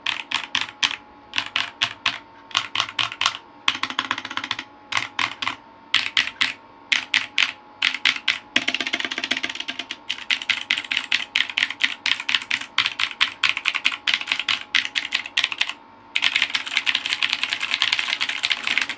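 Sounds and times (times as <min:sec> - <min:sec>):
clicky mechanical keyboard typing: 0:00.0 - 0:18.9.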